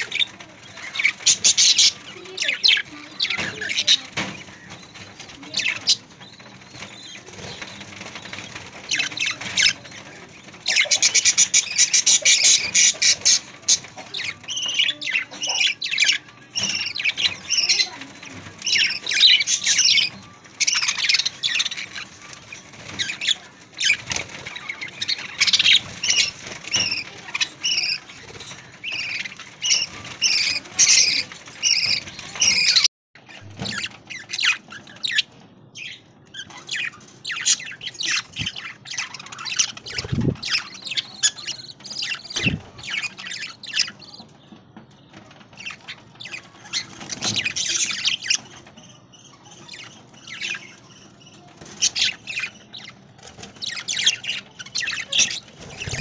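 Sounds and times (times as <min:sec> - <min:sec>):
budgerigars chattering: 0:00.0 - 0:44.2, 0:45.6 - 0:56.0.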